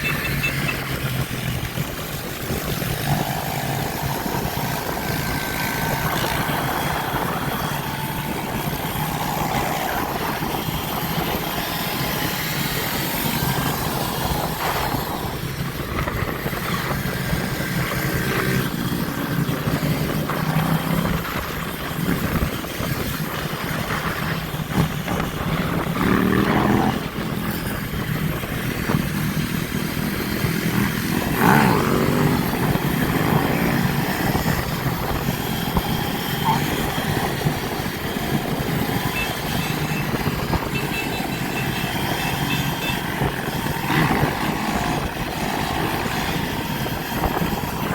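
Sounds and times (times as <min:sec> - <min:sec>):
motorbike engines running: 0:00.0 - 0:47.9
motorbike revving: 0:00.0 - 0:47.9.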